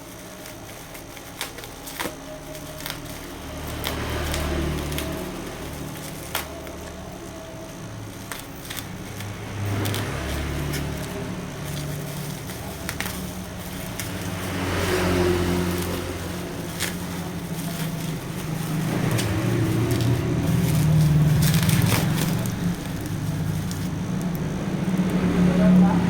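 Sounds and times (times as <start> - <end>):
packaging crinkling and clicking: 0.0 - 25.3.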